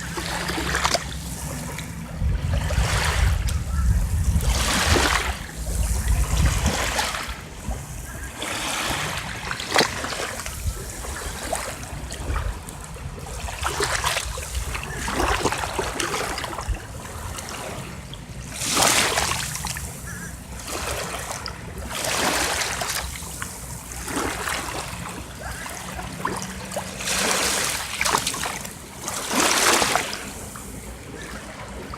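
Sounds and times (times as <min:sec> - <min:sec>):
sea waves washing on beach: 0:00.0 - 0:31.9.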